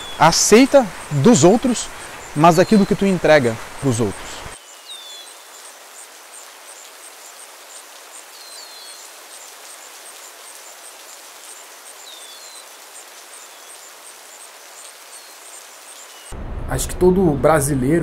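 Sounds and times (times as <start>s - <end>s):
insect high pulsing chirp: 0.0s - 16.3s
steady hiss: 0.0s - 16.4s.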